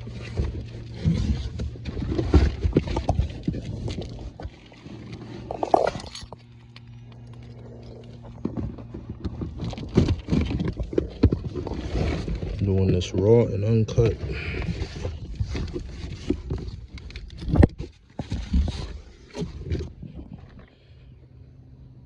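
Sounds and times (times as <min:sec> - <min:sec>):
knocks and rustling of a box: 0:00.0 - 0:06.2, 0:08.3 - 0:20.7
steady low hum: 0:00.0 - 0:22.0.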